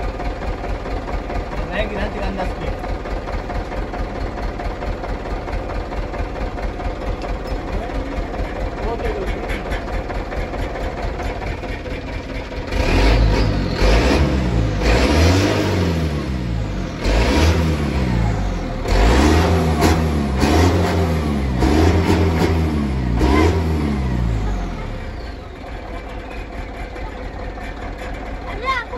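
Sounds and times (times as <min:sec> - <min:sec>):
diesel truck engine revving: 0:00.0 - 0:28.9.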